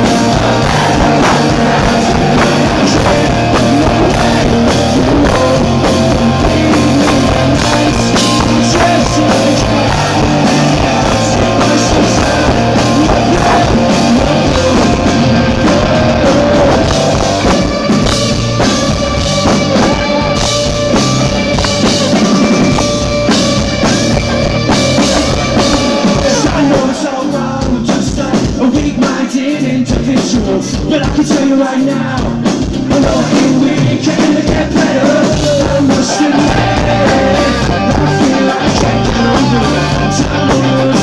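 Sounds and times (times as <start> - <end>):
bass guitar: 0.0 - 41.0
drum kit: 0.0 - 41.0
electric guitars: 0.0 - 41.0.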